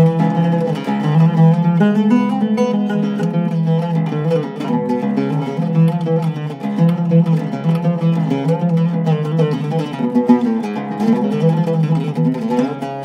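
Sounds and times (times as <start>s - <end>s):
oud plucked notes: 0.0s - 13.0s.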